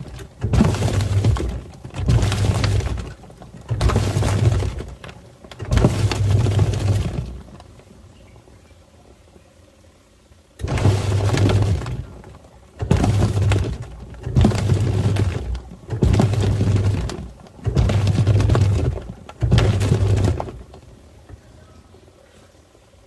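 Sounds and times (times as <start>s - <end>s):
washing machine motor hum: 0.0s - 23.0s
water churning: 0.0s - 23.0s.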